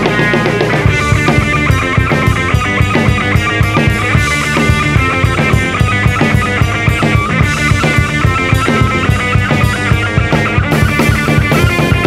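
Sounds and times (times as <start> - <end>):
drum kit with kick and cymbals: 0.0 - 12.0
electric bass: 0.0 - 12.0
electric guitar repeating notes: 0.0 - 12.0.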